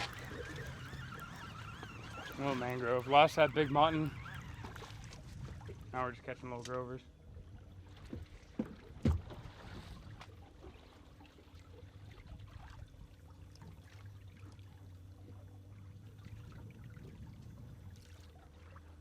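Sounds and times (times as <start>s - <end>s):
water trickling and sloshing: 0.0s - 19.0s.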